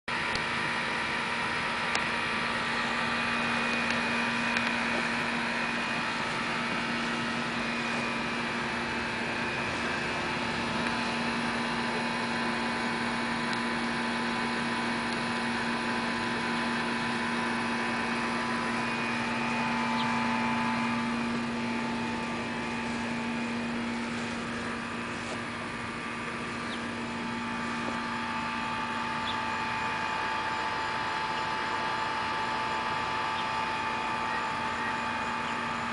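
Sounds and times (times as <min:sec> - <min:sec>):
machine hum with tones: 0:00.1 - 0:35.9.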